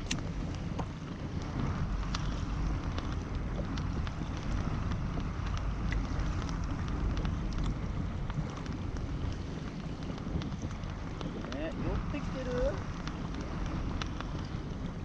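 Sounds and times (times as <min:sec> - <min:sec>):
faint ticks: 0:00.0 - 0:15.0
water splashing against kayak: 0:00.0 - 0:15.0
wind buffeting microphone: 0:00.0 - 0:15.0.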